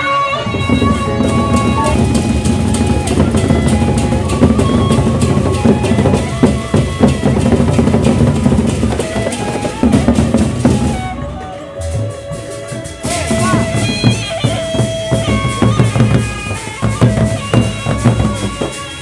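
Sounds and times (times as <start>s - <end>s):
cymbals: 0.0s - 19.0s
barrel drums beaten fast: 0.5s - 11.2s, 11.8s - 19.0s.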